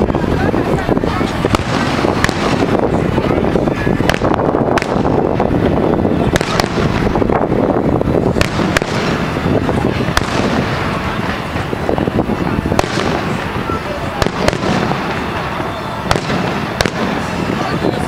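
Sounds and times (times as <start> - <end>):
fireworks bursting and crackling: 0.0 - 18.0
sharp firework bangs: 0.0 - 18.0.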